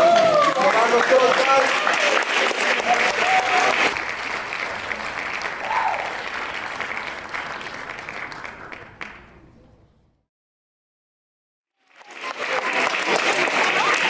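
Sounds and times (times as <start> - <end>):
spectators applauding: 0.0 - 9.4, 11.8 - 14.0.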